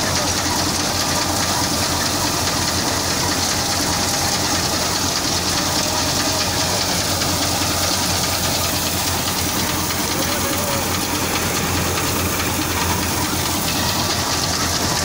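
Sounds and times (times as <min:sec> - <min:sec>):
threshing machine running: 0:00.0 - 0:15.0.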